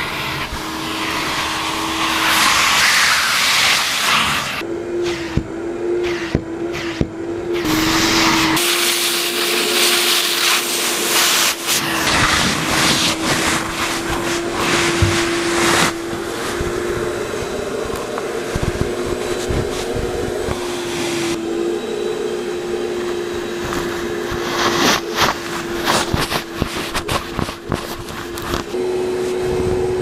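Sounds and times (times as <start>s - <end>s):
nozzle scraping upholstery: 0.0s - 5.4s, 7.6s - 21.4s, 23.1s - 29.5s
vacuum cleaner running: 0.0s - 30.0s.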